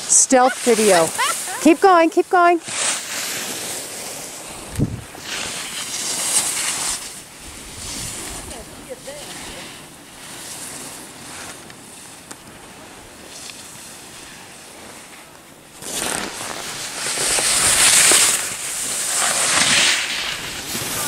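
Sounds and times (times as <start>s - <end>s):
skis scraping over snow: 0.0s - 21.0s.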